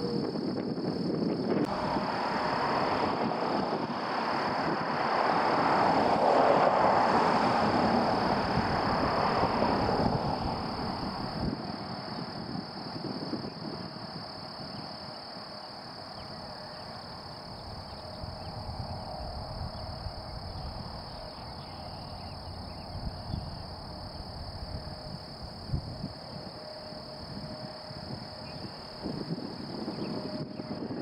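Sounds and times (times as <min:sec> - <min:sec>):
distant propeller plane engine: 0:00.0 - 0:31.0
high insect drone: 0:00.0 - 0:31.0
wind rumble on microphone: 0:00.0 - 0:31.0.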